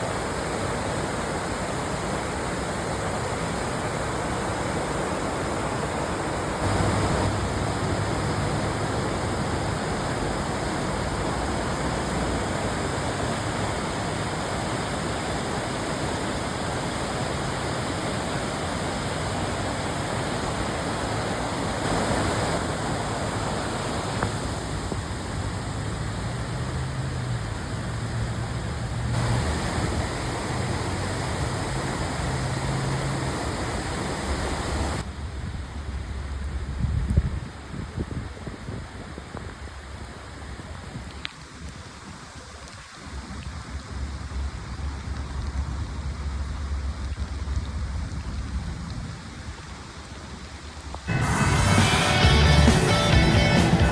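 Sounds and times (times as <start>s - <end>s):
creek water rushing: 0.0s - 36.6s, 37.4s - 53.9s.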